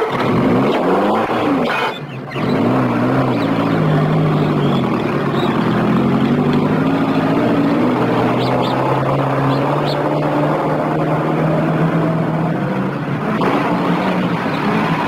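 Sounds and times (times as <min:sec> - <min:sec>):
car driving off: 0:00.0 - 0:15.0
car engine revving: 0:00.0 - 0:15.0.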